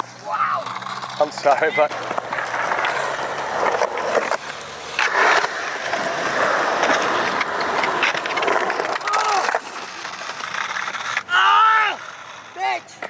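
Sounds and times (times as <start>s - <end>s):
skateboard scraping: 0.0s - 13.0s
skateboard wheels rolling on concrete: 0.0s - 13.0s.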